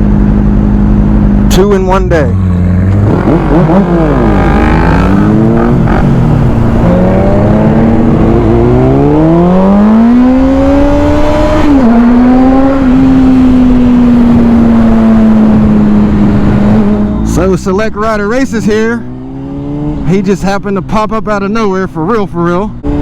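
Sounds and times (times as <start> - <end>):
vehicle engine accelerating: 0.0 - 20.3.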